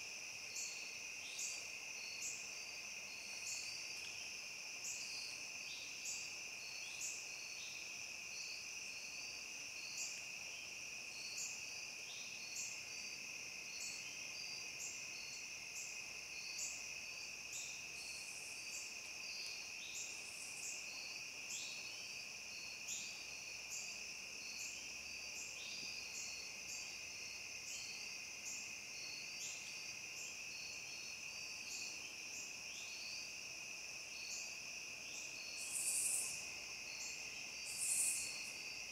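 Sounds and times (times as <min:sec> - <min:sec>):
crickets trilling: 0:00.0 - 0:38.9
insect rhythmic chirp: 0:00.0 - 0:38.9.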